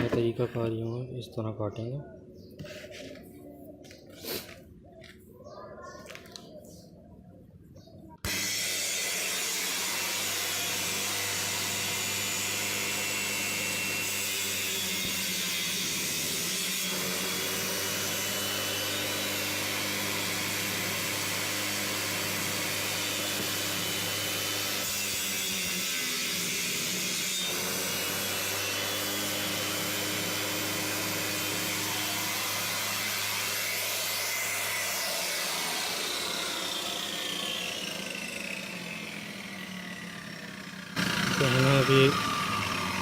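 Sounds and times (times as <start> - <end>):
circular saw running: 8.3 - 43.0
saw blade cutting board: 8.3 - 43.0.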